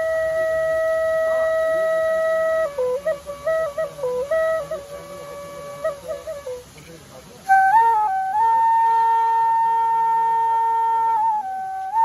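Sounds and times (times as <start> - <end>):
bamboo flute melody: 0.0 - 12.0.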